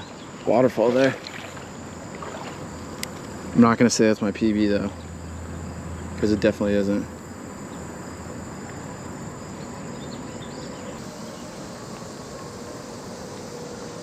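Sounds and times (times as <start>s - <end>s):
insects droning: 0.0s - 14.0s
traffic hum: 0.0s - 14.0s.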